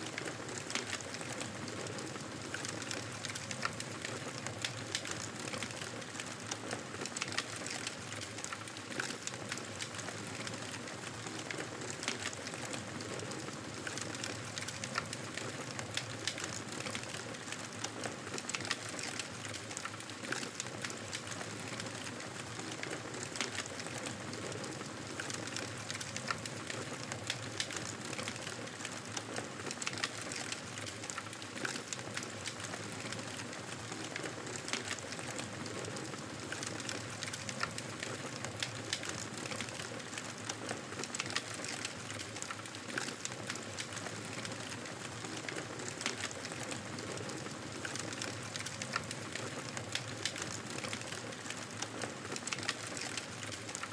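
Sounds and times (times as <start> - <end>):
wood crackling and popping: 0.1 - 53.9
campfire burning: 7.1 - 53.9.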